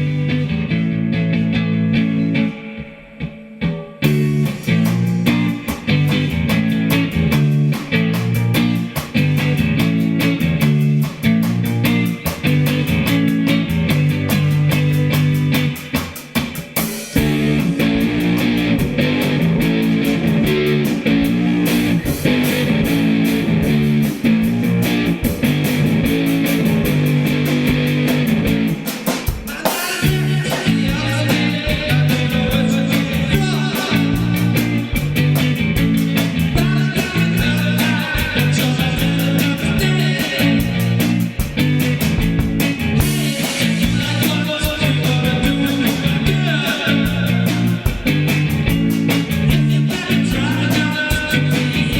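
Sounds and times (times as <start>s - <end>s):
electric guitar: 0.0s - 51.9s
rock band playing: 0.0s - 51.9s.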